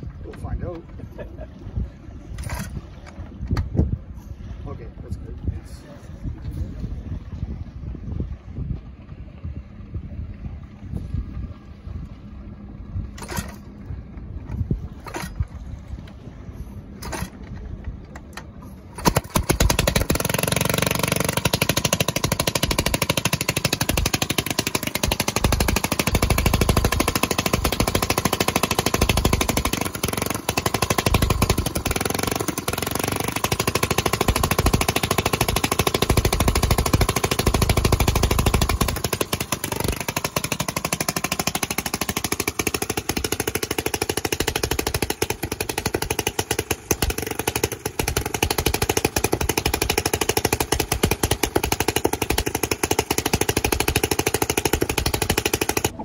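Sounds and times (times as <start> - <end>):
boat motor running: 0.0 - 56.0.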